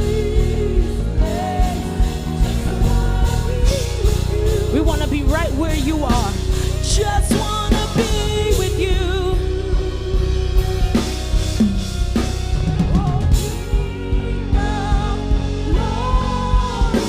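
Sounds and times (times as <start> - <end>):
person singing with vibrato: 0.0 - 11.2, 12.8 - 17.0
bass: 0.0 - 17.0
drum kit: 0.0 - 17.0.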